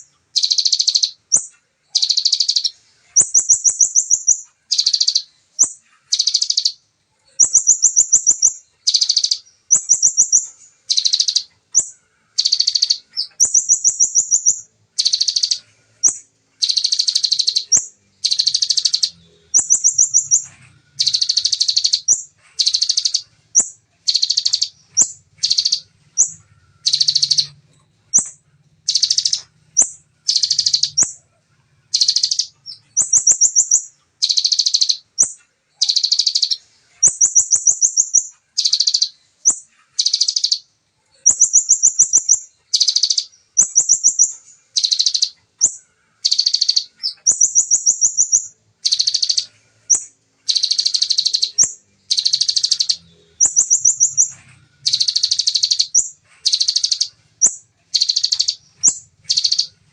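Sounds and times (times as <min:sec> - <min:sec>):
bird singing high trilled bursts: 0:00.0 - 0:59.9.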